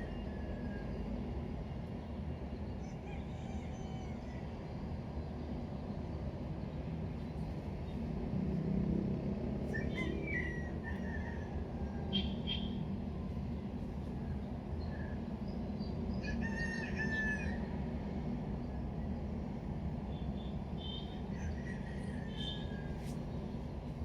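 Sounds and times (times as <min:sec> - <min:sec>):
distant traffic rumble: 0:04.6 - 0:24.0.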